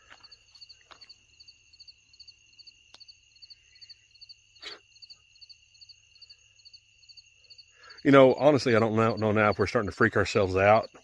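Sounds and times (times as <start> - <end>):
crickets chirping: 0.0 - 11.0
high-pitched insect drone: 0.0 - 11.0.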